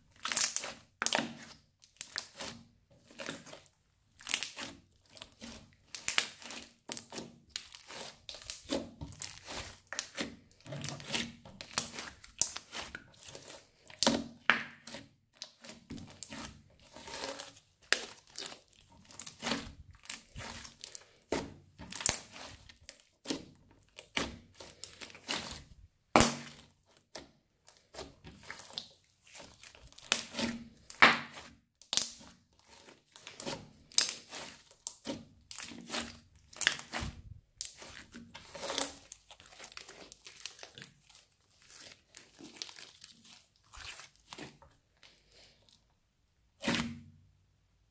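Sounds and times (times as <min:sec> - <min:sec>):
crunchy slime crackling: 0:00.1 - 0:27.0, 0:27.6 - 0:45.7.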